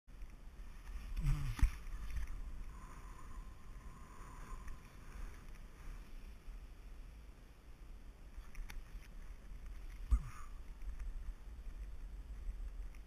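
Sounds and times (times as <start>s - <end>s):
wind rumbling on microphone: 0.1s - 13.0s.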